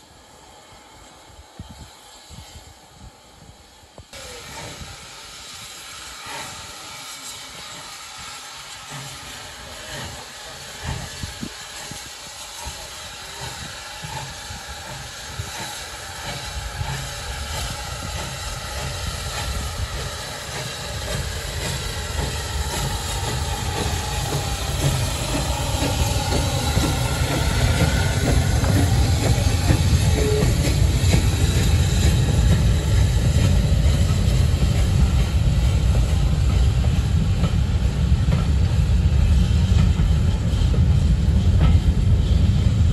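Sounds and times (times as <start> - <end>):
steam hiss: 0.0 - 42.9
steam locomotive exhaust beats: 0.0 - 42.9
wheels rumbling on rail: 0.0 - 42.9.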